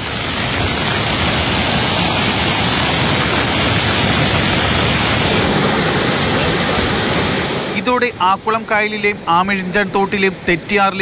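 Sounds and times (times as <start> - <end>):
surf breaking: 0.0 - 11.0
water rushing through channel: 0.0 - 11.0.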